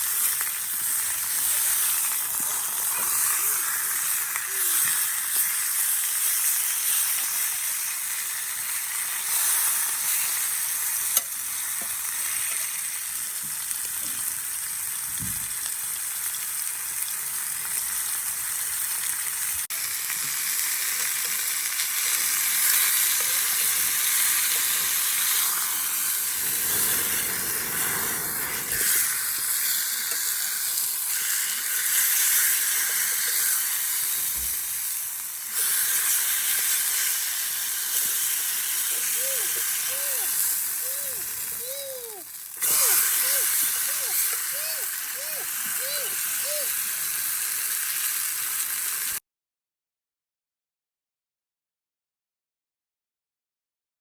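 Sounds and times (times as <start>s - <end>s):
food sizzling in a skillet: 0.0s - 49.2s.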